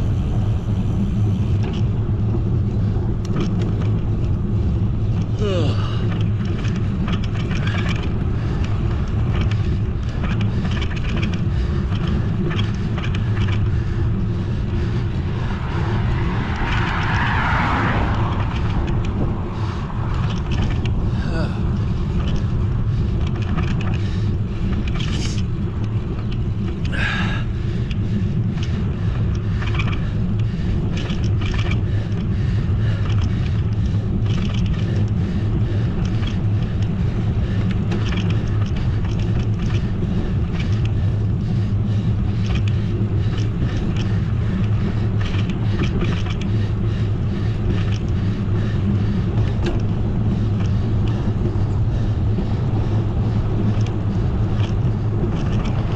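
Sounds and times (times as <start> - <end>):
wind and road noise from bicycle: 0.0 - 55.9.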